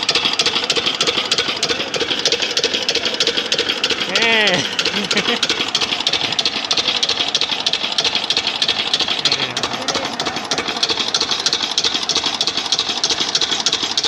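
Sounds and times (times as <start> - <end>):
diesel engine knocking steadily: 0.0 - 14.0.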